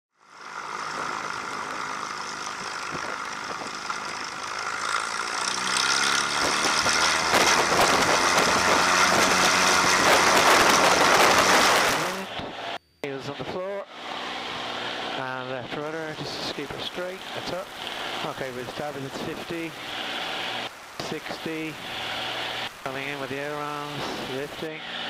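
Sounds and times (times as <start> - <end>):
propeller plane engine revving: 0.1 - 25.0.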